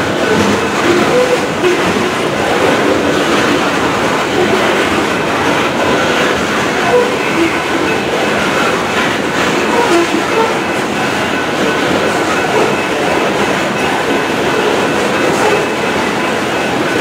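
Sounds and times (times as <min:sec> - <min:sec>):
train cars rolling past: 0:00.0 - 0:17.0.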